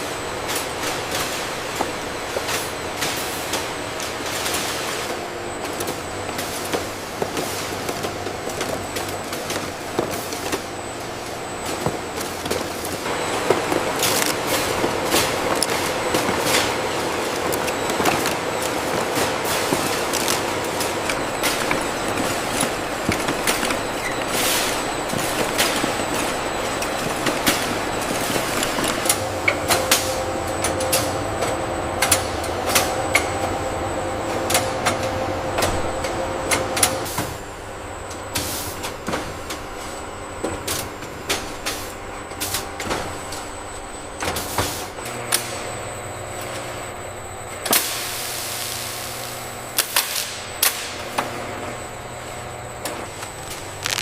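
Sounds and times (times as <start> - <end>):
machinery clanks and clicks: 0.0 - 48.2
factory machinery humming: 0.0 - 54.0.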